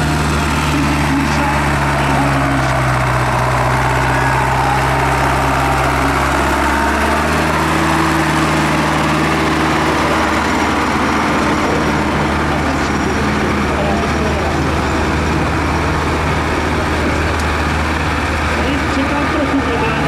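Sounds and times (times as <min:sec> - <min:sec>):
tractor engines running: 0:00.0 - 0:20.0.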